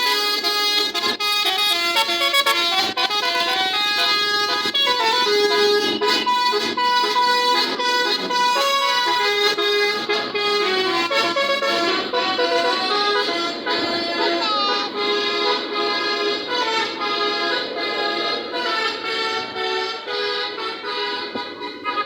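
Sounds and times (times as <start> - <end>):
multi-tone bus air horn tune: 0.0 - 22.0.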